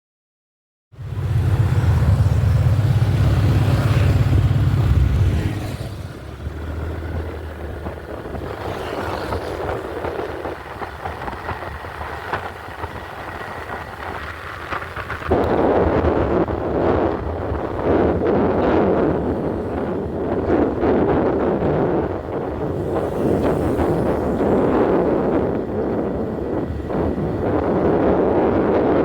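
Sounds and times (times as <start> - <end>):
motorbike engine running: 1.0 - 29.0.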